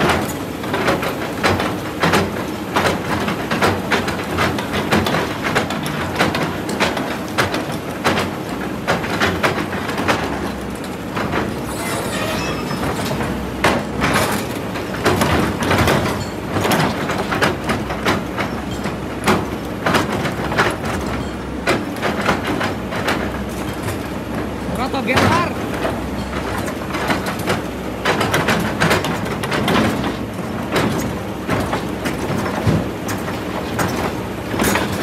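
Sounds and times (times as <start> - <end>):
excavator engine drone: 0.0 - 35.0.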